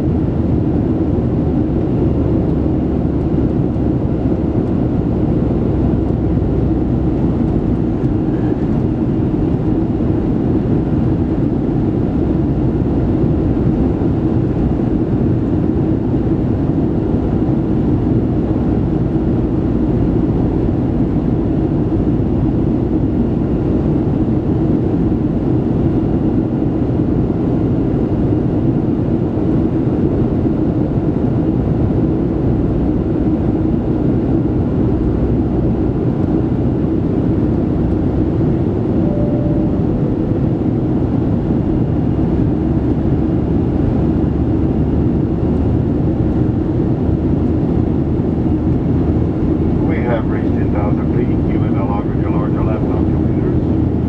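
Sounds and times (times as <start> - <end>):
constant low hum: 0.0 - 54.0
jet engine roar in cabin: 0.0 - 54.0.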